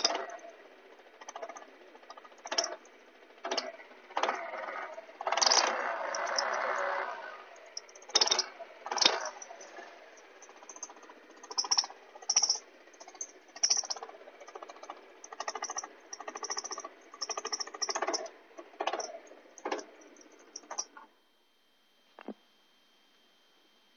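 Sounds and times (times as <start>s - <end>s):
scooter engine revving: 0.0s - 20.8s.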